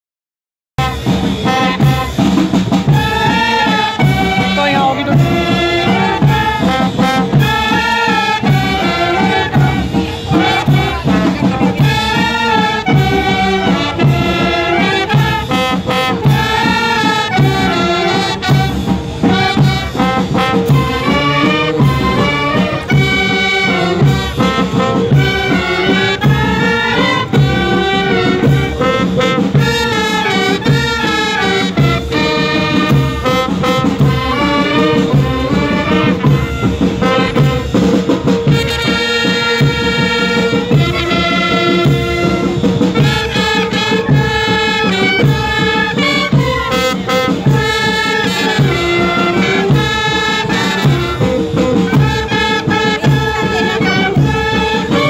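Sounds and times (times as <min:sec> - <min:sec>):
clarinets and saxophones playing: 0:00.8 - 0:55.0
steady beat: 0:00.8 - 0:55.0.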